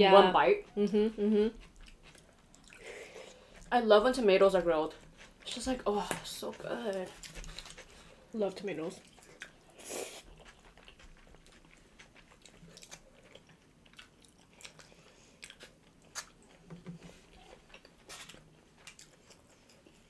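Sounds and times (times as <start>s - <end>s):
people chewing and biting: 0.6s - 3.7s, 6.2s - 8.2s, 9.0s - 20.0s.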